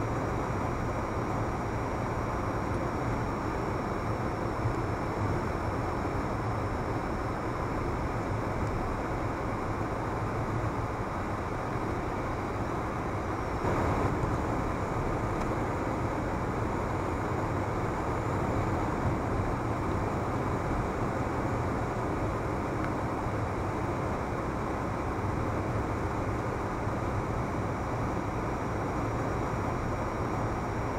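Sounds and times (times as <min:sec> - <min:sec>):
car engine and tyre noise inside cabin: 0:00.0 - 0:30.9.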